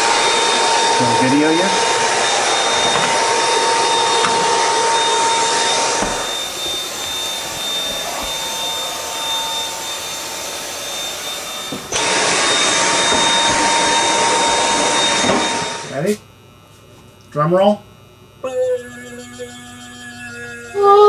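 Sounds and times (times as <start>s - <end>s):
fan whirring with high whine: 0.0s - 21.0s.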